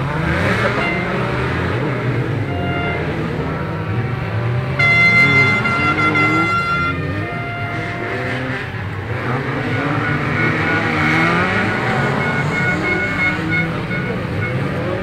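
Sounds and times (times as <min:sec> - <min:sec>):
horn blaring: 0:00.0 - 0:15.0
race car engines revving: 0:00.0 - 0:15.0.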